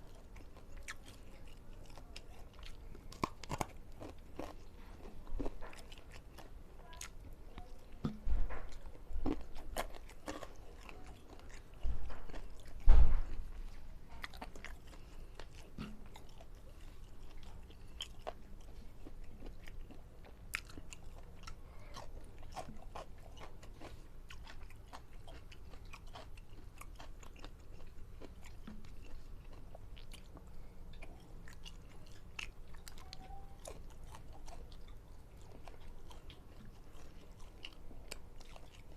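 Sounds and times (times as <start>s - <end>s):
chewing and biting food: 0.0s - 38.9s.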